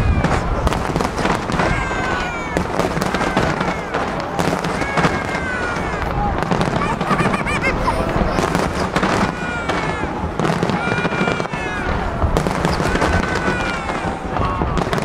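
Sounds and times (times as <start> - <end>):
crowd voices: 0.0 - 15.0
fireworks bangs and crackles: 0.0 - 15.0.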